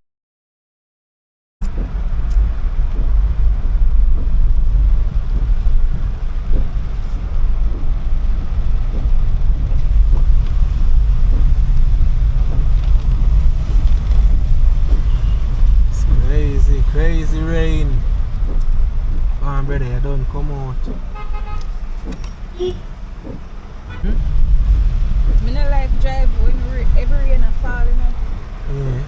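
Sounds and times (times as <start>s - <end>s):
car and tyres rumbling on wet road: 1.6s - 29.0s
rain hissing: 1.7s - 29.0s.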